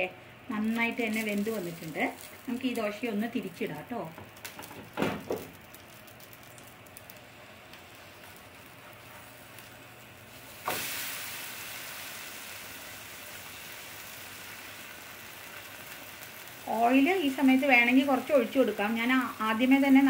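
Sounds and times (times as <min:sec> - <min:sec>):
faint cooking hiss: 0:00.0 - 0:20.0
loud sizzle in a pan: 0:00.0 - 0:20.0.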